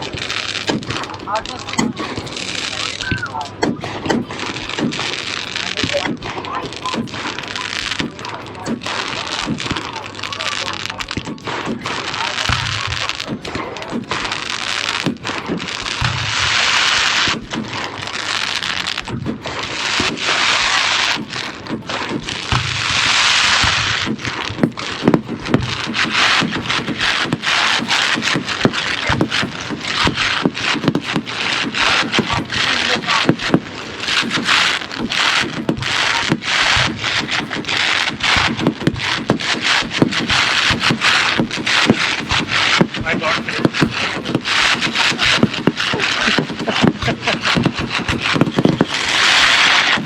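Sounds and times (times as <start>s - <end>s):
fireworks bangs and pops: 0.0s - 50.0s
fireworks hissing crackle: 0.0s - 50.0s.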